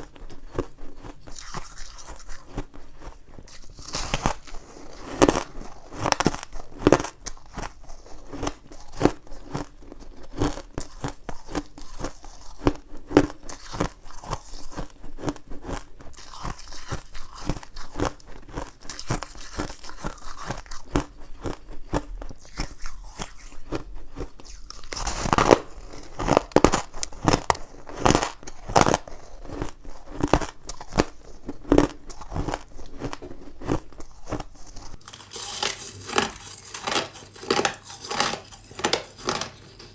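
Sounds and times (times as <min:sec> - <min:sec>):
person crunching ice: 0:00.0 - 0:39.6.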